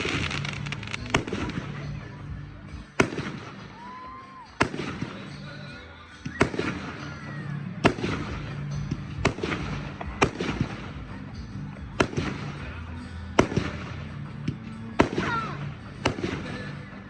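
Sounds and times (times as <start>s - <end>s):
firework bangs: 0.0s - 2.2s, 2.8s - 5.6s, 6.2s - 11.2s, 11.9s - 12.8s, 13.4s - 16.8s
firework crackling: 0.0s - 2.2s, 2.8s - 14.2s, 15.0s - 16.9s.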